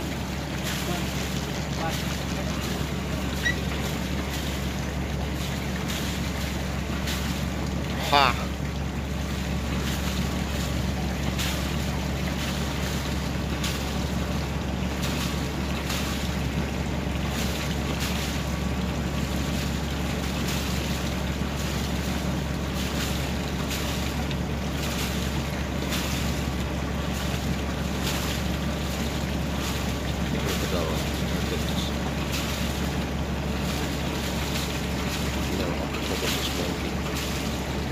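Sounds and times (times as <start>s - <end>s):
boat engine idling: 0.0s - 37.9s
wind: 0.0s - 37.9s.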